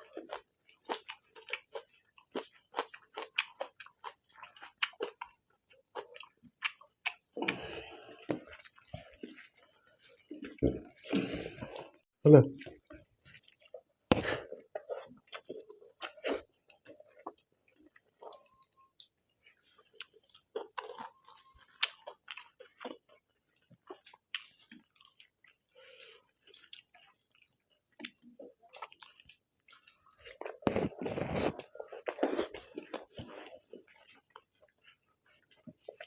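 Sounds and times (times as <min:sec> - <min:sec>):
people chewing and eating: 0:00.0 - 0:36.0.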